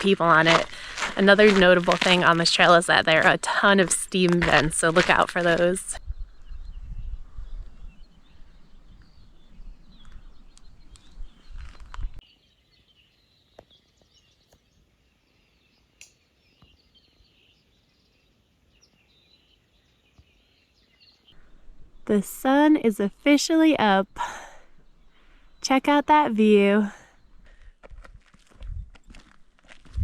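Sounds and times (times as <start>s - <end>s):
small birds chirping: 0.0s - 29.4s.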